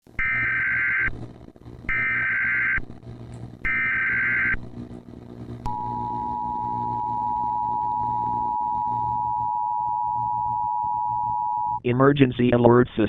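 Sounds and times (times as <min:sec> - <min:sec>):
low hum: 0:00.1 - 0:11.8.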